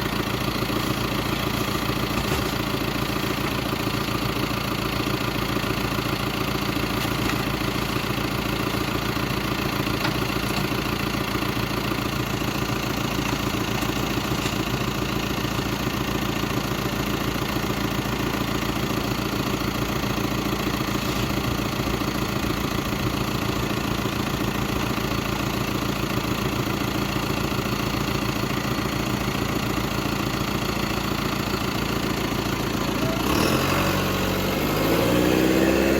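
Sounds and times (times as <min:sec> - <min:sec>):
farm machine engine running: 0:00.0 - 0:35.9.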